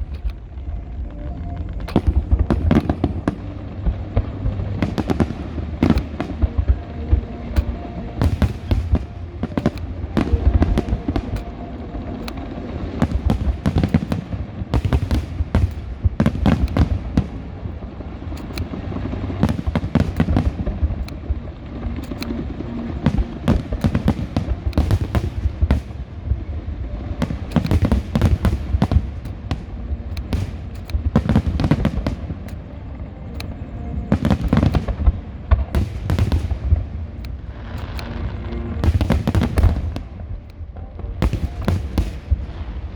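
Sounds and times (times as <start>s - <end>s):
low rumble: 0.0s - 42.9s
fireworks bangs and crackles: 1.6s - 42.9s.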